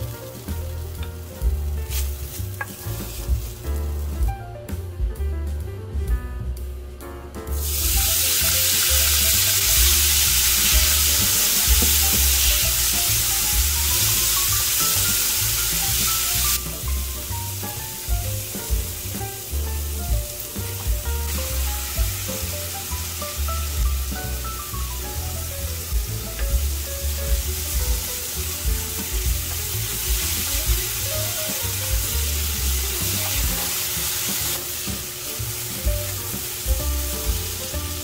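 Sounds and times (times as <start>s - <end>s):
tofu sizzling in hot oil: 0.0s - 4.1s, 7.6s - 38.0s
background music: 0.0s - 38.0s.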